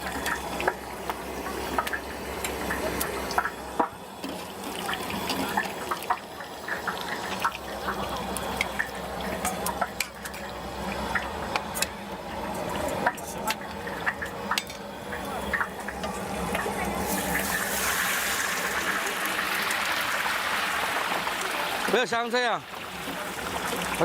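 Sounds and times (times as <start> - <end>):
liquid sloshing and pouring: 0.0 - 22.0.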